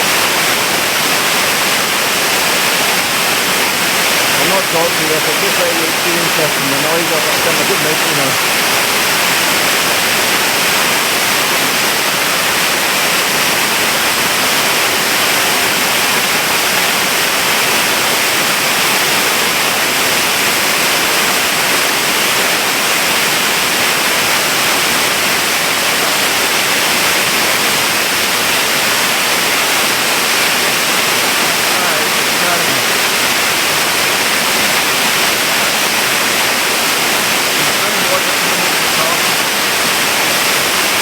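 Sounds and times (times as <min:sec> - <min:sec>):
waterfall roaring: 0:00.0 - 0:41.0.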